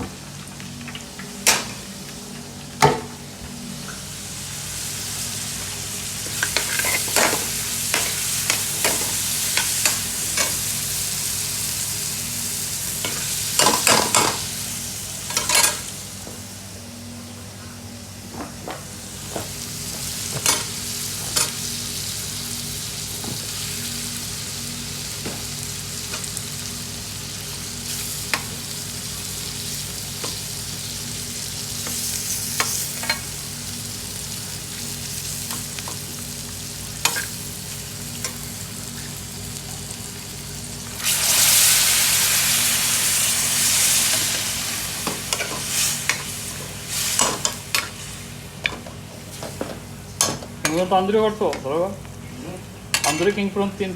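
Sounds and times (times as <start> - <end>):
food frying in a pan: 0.0 - 16.8, 18.6 - 53.9.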